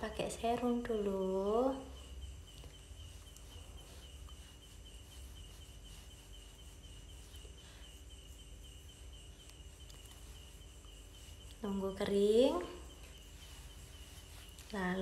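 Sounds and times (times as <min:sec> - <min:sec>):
faint high-pitched pulsing chirp: 0:00.0 - 0:15.0.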